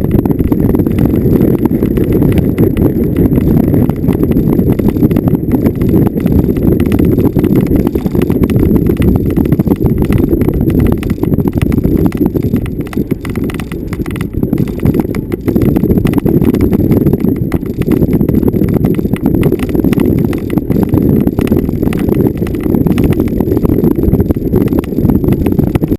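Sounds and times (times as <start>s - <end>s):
knocks and rattles: 0.0s - 25.9s
vehicle rumbling over rough ground: 0.0s - 25.9s.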